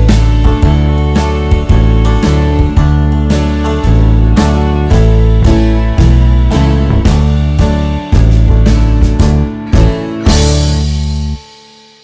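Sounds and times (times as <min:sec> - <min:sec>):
strummed guitar music: 0:00.0 - 0:11.8.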